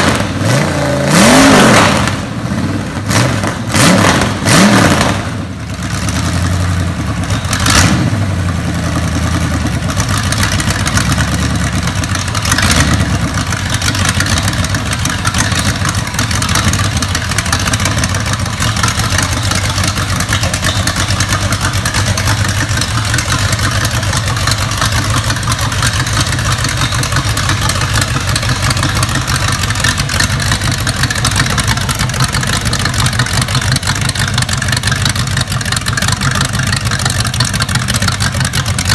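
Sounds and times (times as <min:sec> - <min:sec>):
engine revving and running: 0:00.0 - 0:38.9.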